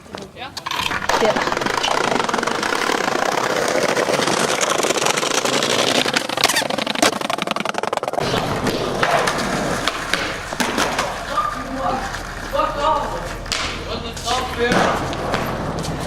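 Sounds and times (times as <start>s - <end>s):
skateboard wheels rolling on pavement: 0.0s - 16.0s
skateboard knocks: 0.2s - 12.6s, 14.5s - 16.0s.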